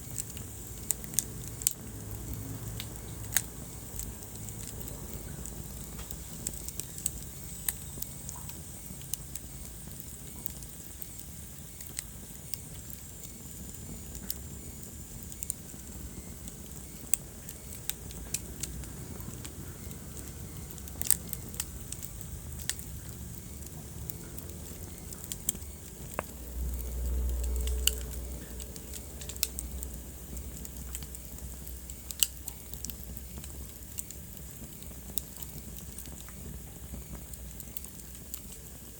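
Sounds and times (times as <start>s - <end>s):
fire pops and snaps: 0.0s - 38.9s
low rumble of flames: 0.0s - 38.9s.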